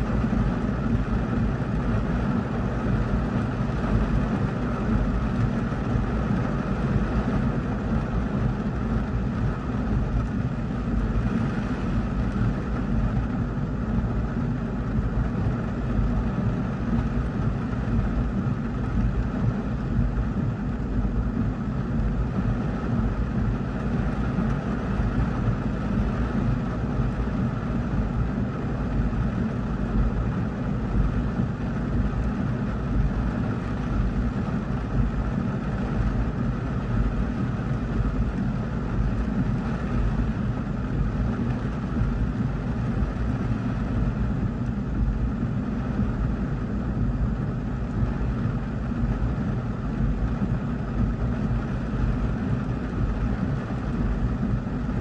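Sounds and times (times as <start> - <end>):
heavy low rumble: 0.0 - 55.0
heavy rain on car roof: 0.0 - 55.0.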